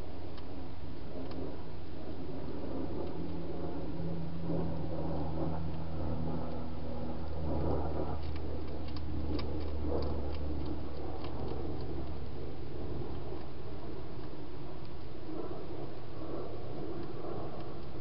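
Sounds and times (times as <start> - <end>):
low hum and hiss: 0.0 - 18.0
hedgehog crunching food: 2.3 - 18.0.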